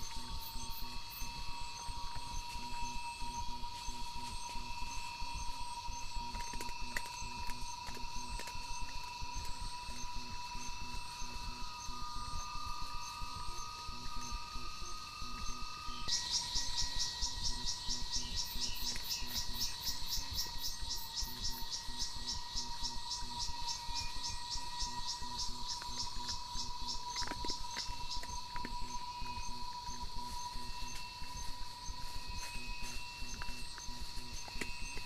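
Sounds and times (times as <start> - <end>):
high insect drone: 0.0 - 35.0
insects pulsed trill: 0.0 - 35.0.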